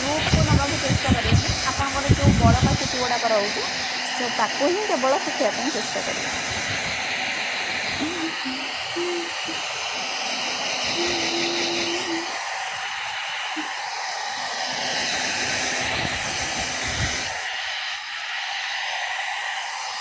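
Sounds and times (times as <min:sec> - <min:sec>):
hair dryer blowing air: 0:00.0 - 0:20.0.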